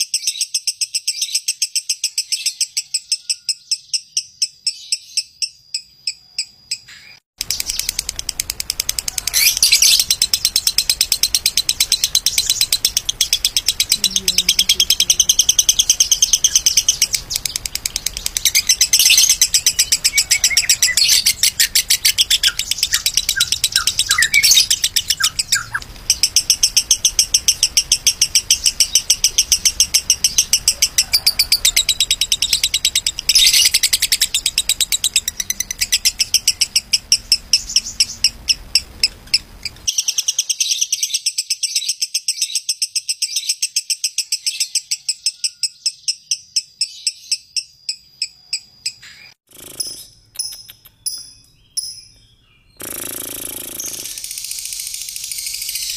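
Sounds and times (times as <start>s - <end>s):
lovebird chattering song: 0.0s - 55.9s.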